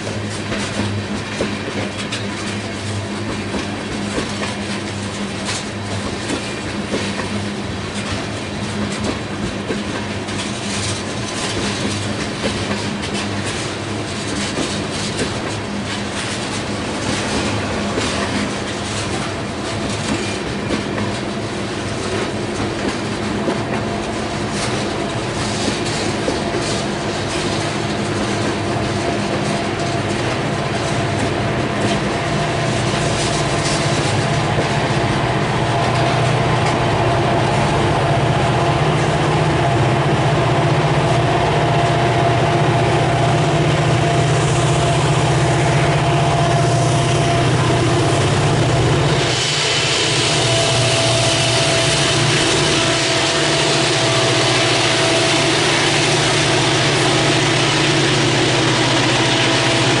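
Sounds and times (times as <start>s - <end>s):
diesel locomotive engine: 0.0s - 60.0s
train wheels clattering on rails: 0.0s - 60.0s.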